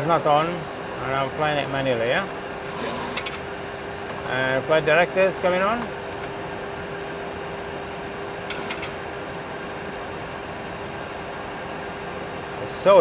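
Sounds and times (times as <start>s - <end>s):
aircraft engine and airflow noise: 0.0s - 13.0s
constant hum: 0.0s - 13.0s.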